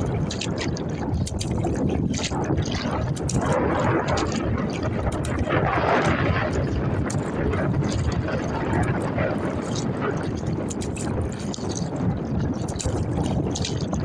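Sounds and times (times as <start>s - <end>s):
water splashing against kayak: 0.0s - 14.0s
wind rumble on microphone: 0.0s - 14.0s.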